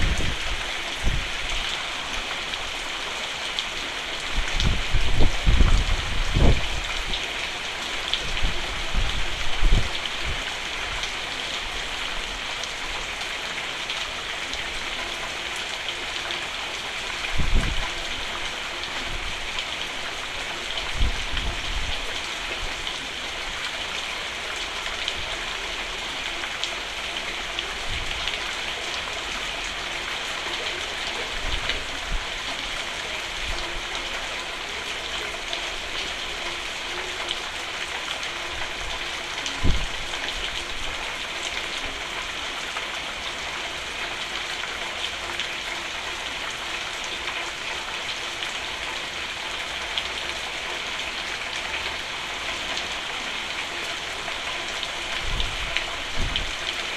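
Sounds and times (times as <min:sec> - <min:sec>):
rain pattering on a roof: 0:00.0 - 0:56.9.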